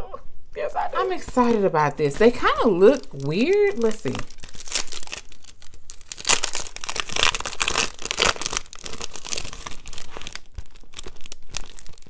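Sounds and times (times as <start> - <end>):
plastic wrapping crinkling: 0.6 - 12.0.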